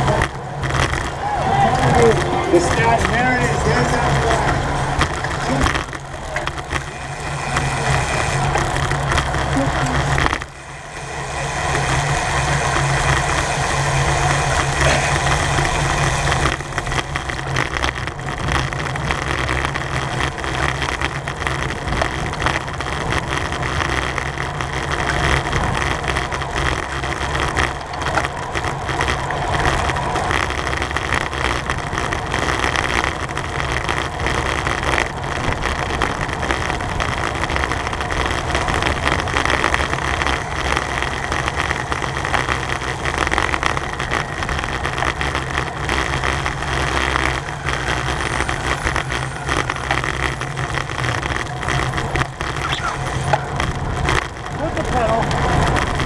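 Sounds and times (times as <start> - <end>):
bicycle tyres and drivetrain hum: 0.0 - 56.0
wind rushing over microphone: 0.0 - 56.0.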